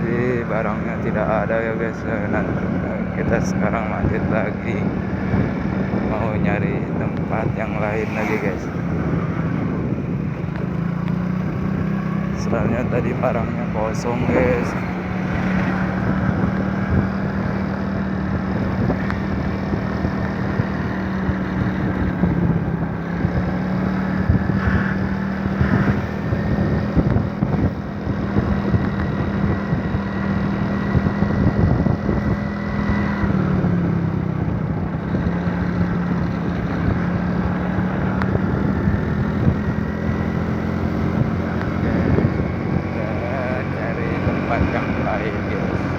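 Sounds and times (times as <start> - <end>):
vehicle engine droning: 0.0 - 45.9
wind and road noise: 0.0 - 45.9.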